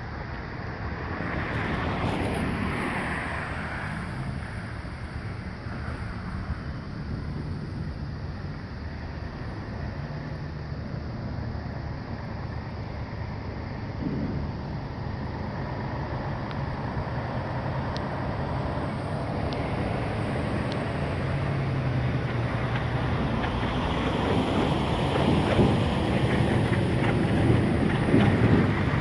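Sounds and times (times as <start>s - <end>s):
wind noise on microphone: 0.8s - 11.8s, 12.6s - 29.0s
low steady rumble: 4.2s - 29.0s.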